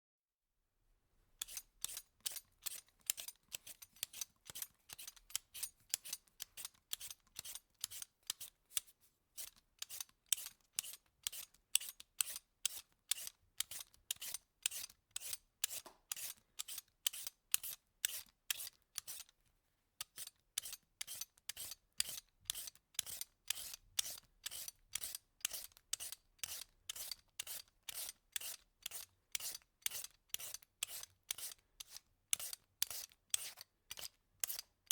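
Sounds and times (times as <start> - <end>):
vegetable peeler scraping: 1.4 - 19.3, 20.0 - 34.7.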